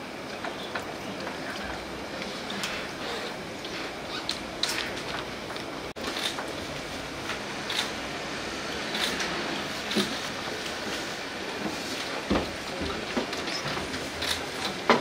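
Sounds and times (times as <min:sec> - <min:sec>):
room noise with hiss: 0:00.0 - 0:15.0.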